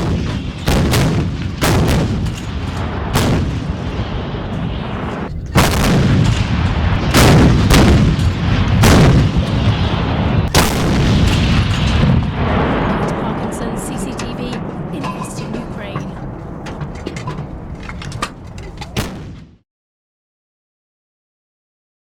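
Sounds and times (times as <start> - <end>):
rolling rumble: 0.0 - 19.5
artillery guns firing: 0.0 - 19.6.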